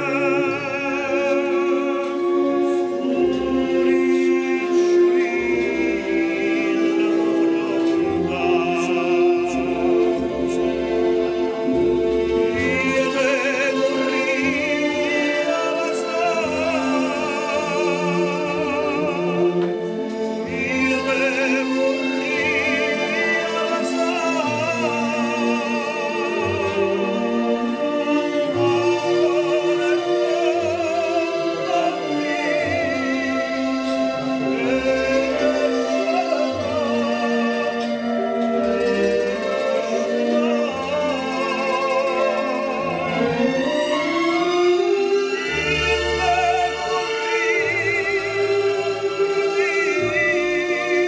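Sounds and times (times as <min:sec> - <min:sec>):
man singing with vibrato: 0:00.0 - 0:11.3, 0:12.3 - 0:51.0
instrumental accompaniment: 0:00.0 - 0:51.0.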